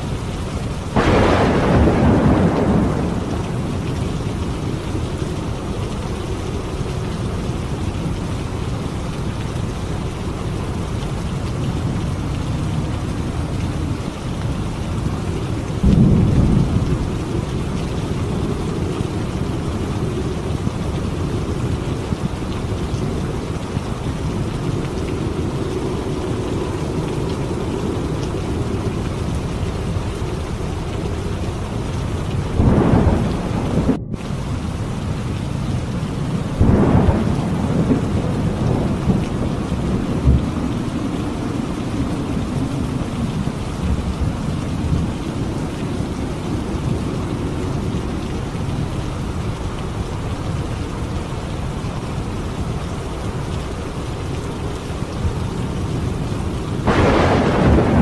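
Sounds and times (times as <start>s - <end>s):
steady rain: 0.0s - 58.0s
thunder rumble: 0.6s - 11.0s, 11.6s - 50.2s, 54.5s - 58.0s.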